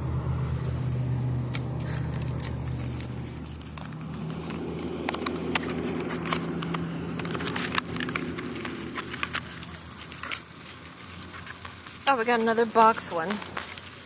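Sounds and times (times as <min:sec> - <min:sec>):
vehicle engine idling: 0:00.0 - 0:11.8
sharp clicks and crackles: 0:01.4 - 0:14.0.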